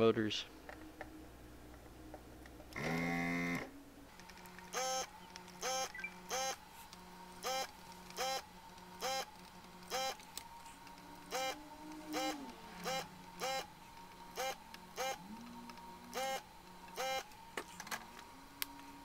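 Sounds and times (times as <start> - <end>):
faint steady hum: 0.0 - 19.0
desoldering pump buzzing: 2.7 - 19.0.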